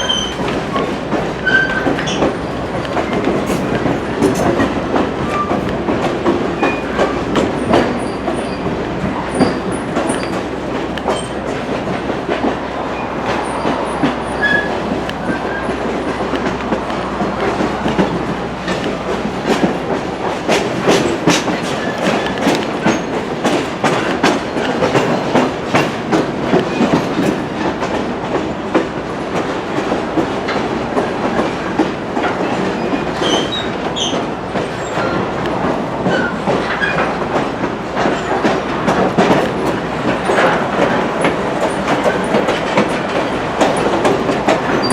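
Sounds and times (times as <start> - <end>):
railroad cars rumbling: 0.0 - 44.9
wheels clicking over rail joints: 0.0 - 44.9.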